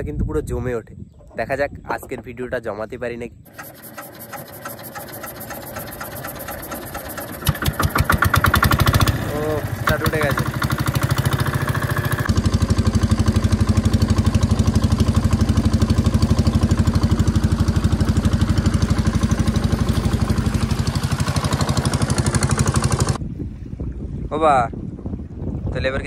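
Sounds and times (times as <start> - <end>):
boat engine puttering: 1.0 - 23.2.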